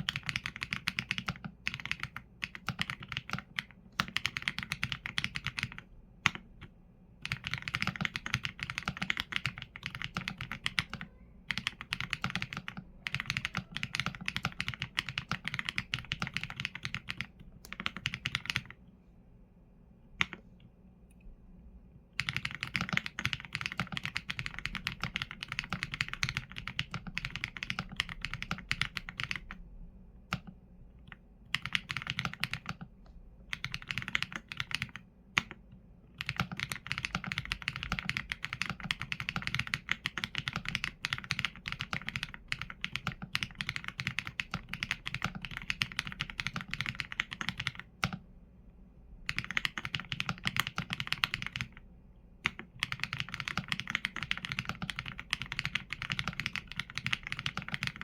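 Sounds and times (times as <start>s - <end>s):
mechanical keyboard typing: 0.0s - 18.8s, 22.2s - 29.6s, 30.3s - 32.9s, 33.5s - 48.2s, 49.3s - 51.8s, 52.4s - 58.0s.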